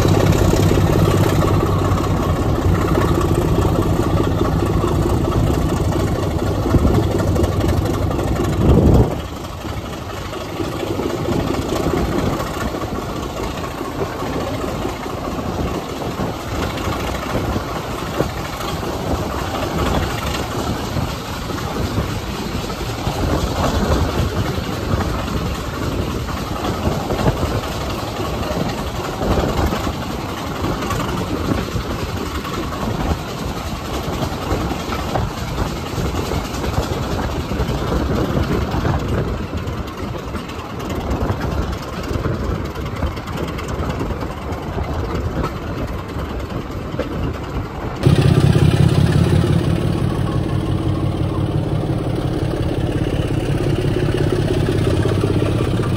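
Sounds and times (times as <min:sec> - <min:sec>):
coaches running on rails: 0:00.0 - 0:55.9
diesel locomotive engine: 0:00.0 - 0:55.9.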